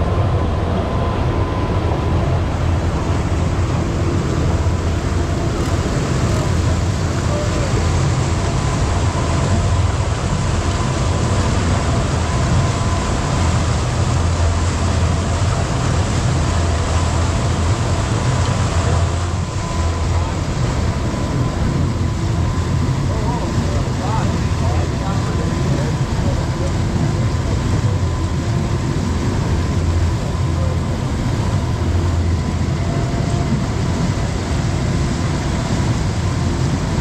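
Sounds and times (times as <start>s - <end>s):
speedboat engine drone: 0.0s - 37.0s
water rushing from wake: 0.0s - 37.0s.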